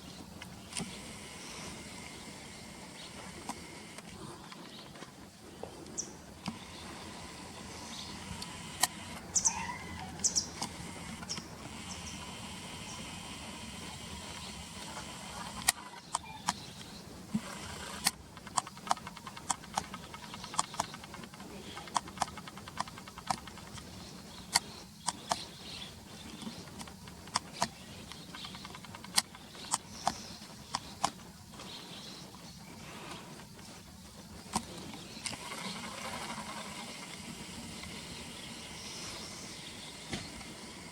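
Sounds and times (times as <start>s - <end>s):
swallows chirping: 0.0s - 18.0s, 18.7s - 40.9s
distant traffic hum: 0.0s - 40.9s.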